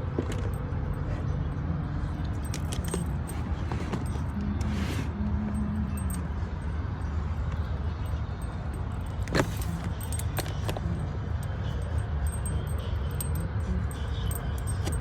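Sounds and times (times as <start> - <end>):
light clicks and clinks: 0.0 - 15.0.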